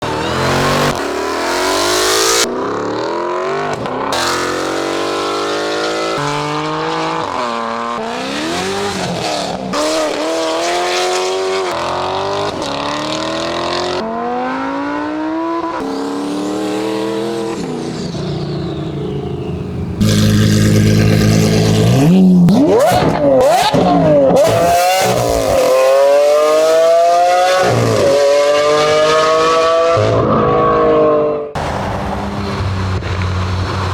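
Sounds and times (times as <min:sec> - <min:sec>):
car engines revving: 0:00.0 - 0:33.9.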